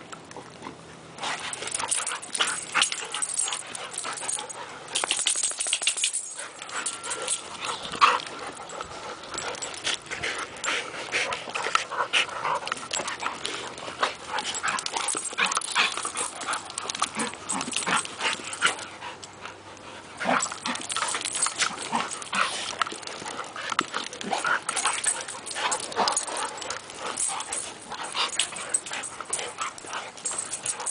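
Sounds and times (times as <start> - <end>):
dogs play-fighting: 0.0 - 30.9.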